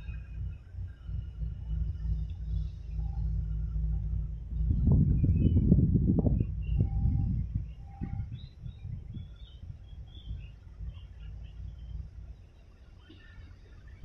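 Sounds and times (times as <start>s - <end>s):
low rumble: 0.0s - 14.0s
small birds chirping: 0.0s - 14.0s.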